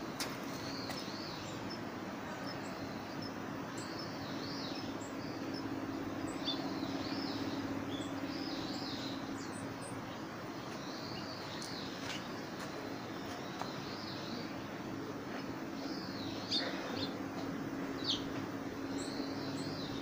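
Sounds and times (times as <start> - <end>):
small birds chirping and singing: 0.0 - 20.0
steady low hum: 0.0 - 20.0.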